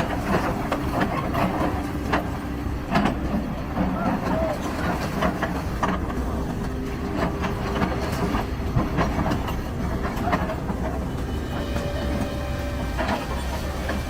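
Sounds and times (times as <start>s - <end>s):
heavy machinery rumbling: 0.0s - 14.0s.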